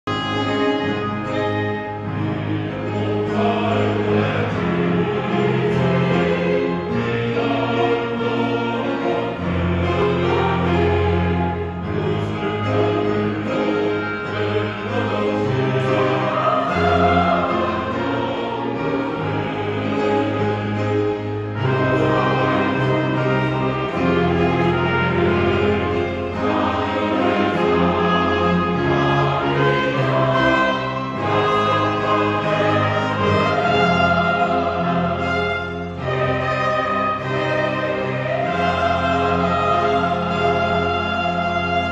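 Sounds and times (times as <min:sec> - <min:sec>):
small orchestra playing: 0:00.0 - 0:41.9
choir singing: 0:00.1 - 0:41.9.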